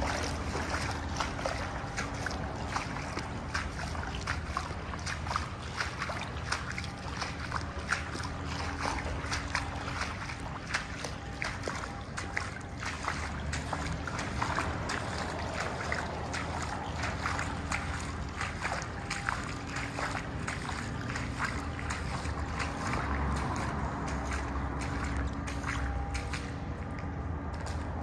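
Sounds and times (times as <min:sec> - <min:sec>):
steady low hum: 0:00.0 - 0:28.0
water trickling and dripping: 0:00.0 - 0:28.0.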